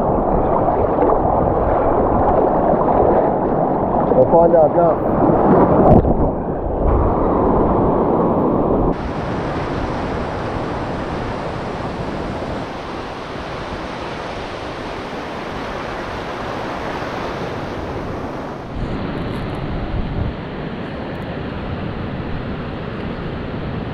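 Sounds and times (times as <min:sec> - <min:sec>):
sea surf washing on shore: 0:00.0 - 0:23.9
wind buffeting microphone: 0:00.0 - 0:23.9.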